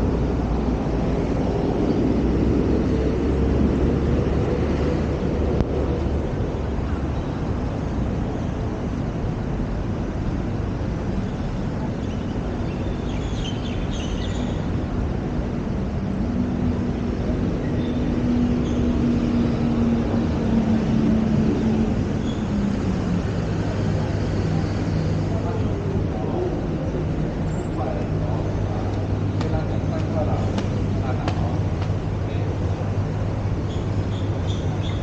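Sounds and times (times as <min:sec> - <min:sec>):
passing traffic engine drone: 0:00.0 - 0:12.6, 0:13.8 - 0:35.0.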